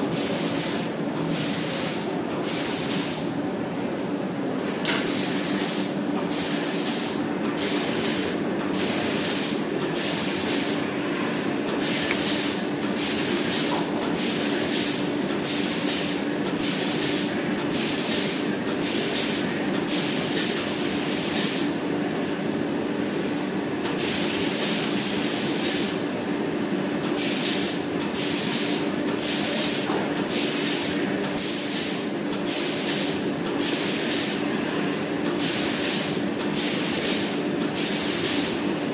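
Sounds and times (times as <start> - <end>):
spray gun hissing bursts: 0.1 - 3.3, 5.1 - 10.8, 11.8 - 21.7, 24.0 - 26.0, 27.2 - 34.5, 35.4 - 38.7.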